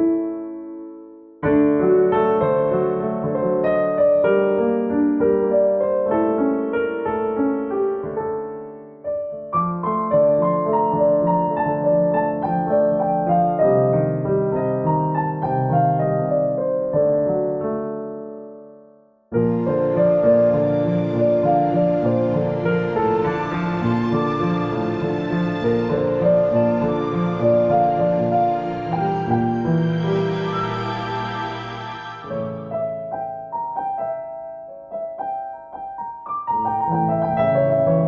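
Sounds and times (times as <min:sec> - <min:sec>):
solo piano music: 0:00.0 - 0:38.0.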